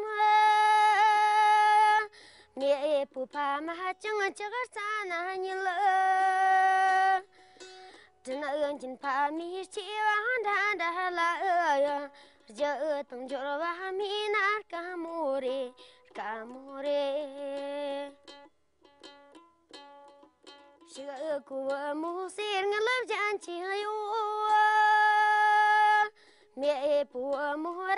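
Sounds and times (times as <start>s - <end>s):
person singing folk song: 0.0s - 27.9s
plucked string notes: 2.6s - 25.8s.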